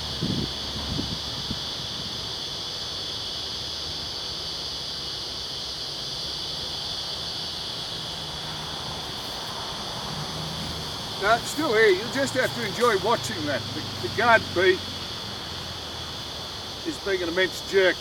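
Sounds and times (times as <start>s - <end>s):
faint low hum of honeybees: 0.0s - 18.0s
insect chorus drone: 0.0s - 18.0s.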